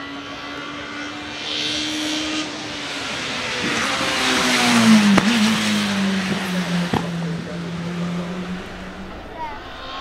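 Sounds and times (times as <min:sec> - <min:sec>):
racing car engine passing: 0:00.0 - 0:10.0.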